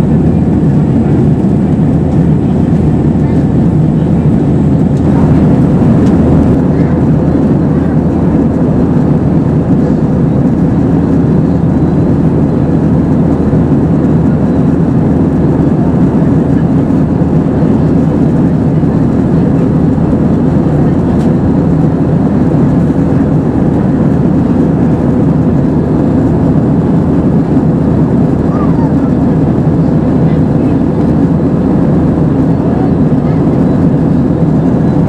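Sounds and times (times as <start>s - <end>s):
airliner cabin engine drone: 0.0s - 35.0s.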